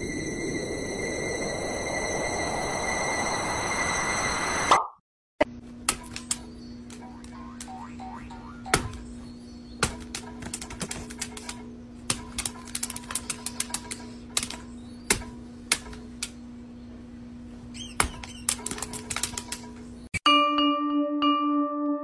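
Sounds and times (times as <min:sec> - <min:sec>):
steady hum: 0:00.0 - 0:04.8, 0:05.4 - 0:20.1.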